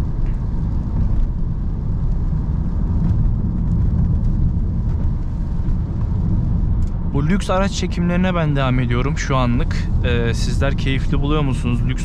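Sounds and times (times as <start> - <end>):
in-cabin tyre and engine rumble: 0.0 - 12.0.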